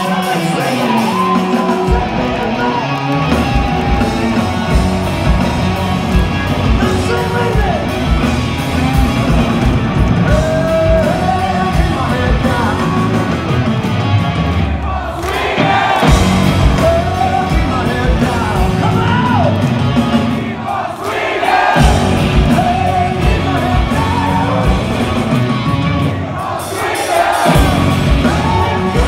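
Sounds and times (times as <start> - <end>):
live hard rock band: 0.0 - 29.0.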